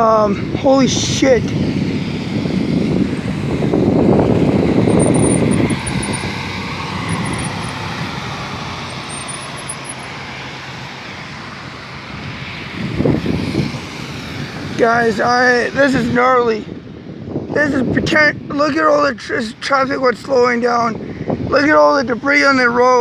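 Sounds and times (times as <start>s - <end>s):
vehicle and road noise: 0.0s - 23.0s
wind buffeting microphone: 0.0s - 23.0s.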